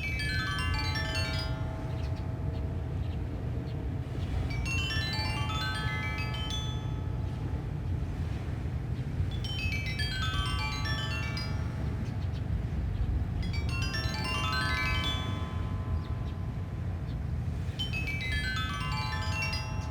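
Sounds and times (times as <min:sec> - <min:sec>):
low rumble of wind: 0:00.0 - 0:19.9.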